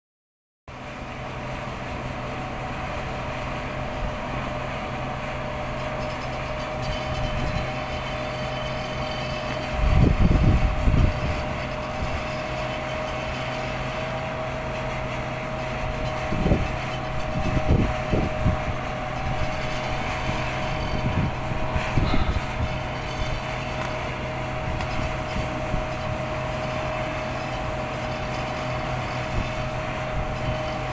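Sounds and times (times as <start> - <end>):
pump motor whine: 0.7 - 30.9.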